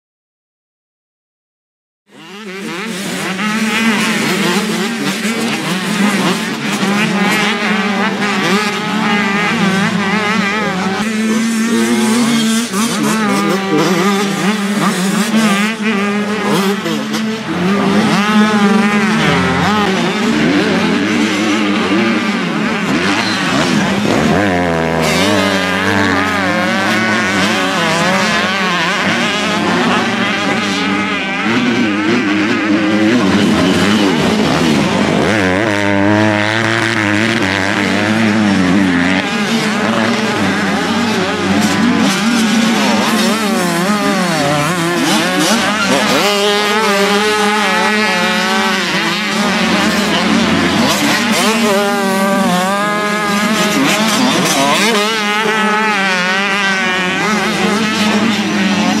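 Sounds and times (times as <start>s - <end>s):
motocross bike engines revving: 2.1s - 59.0s.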